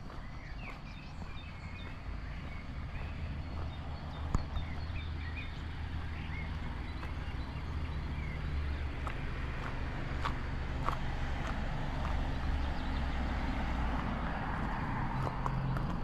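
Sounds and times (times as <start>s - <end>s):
small birds chirping: 0.0s - 16.0s
steady low street rumble: 0.0s - 16.0s.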